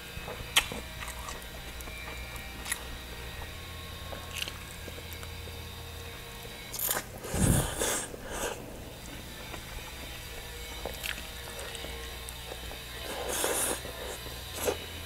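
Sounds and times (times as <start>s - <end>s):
low steady hum: 0.0s - 15.0s
man biting and chewing meat: 0.0s - 15.0s.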